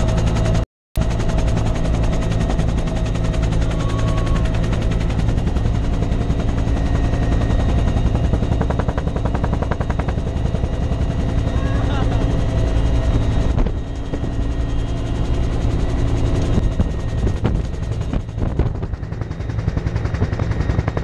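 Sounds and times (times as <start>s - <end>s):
helicopter engine drone: 0.0s - 21.0s
helicopter rotor blades chopping: 0.0s - 21.0s.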